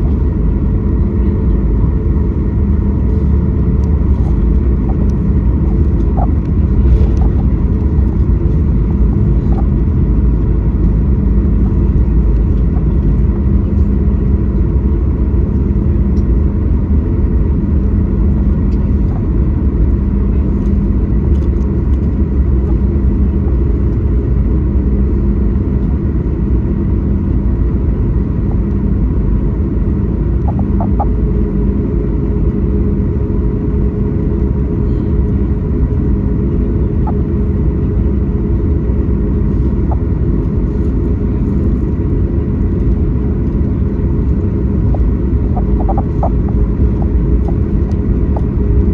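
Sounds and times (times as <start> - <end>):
faint humming tones: 0.0 - 48.9
jet engine cabin rumble: 0.0 - 48.9.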